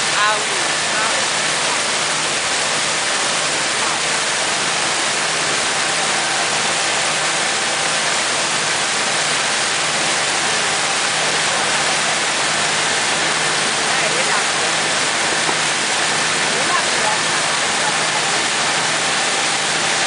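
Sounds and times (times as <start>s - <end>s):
boat engine drone: 0.0s - 20.0s
boat wake churning: 0.0s - 20.0s.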